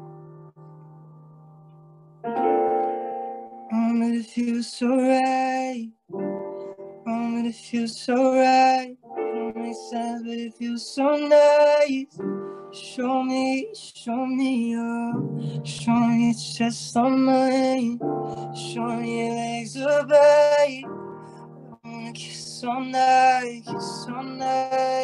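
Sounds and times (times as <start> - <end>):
soft piano chords: 0.0 - 25.0
man singing slow melody: 3.7 - 6.0, 7.0 - 25.0.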